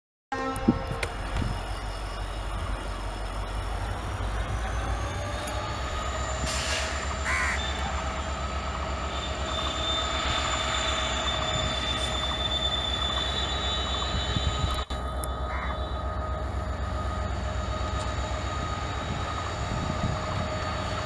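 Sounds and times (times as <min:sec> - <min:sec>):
diesel locomotive engine throbbing: 0:00.4 - 0:21.0.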